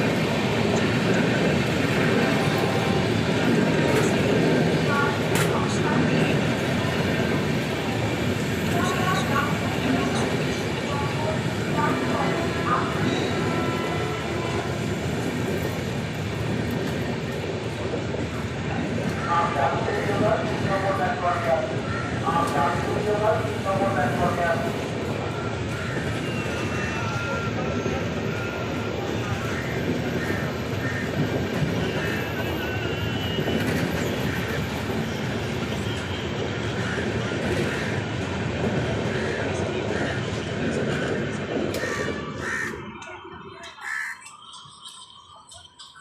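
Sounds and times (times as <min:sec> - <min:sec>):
train coaches rumbling and rattling: 0:00.0 - 0:46.0.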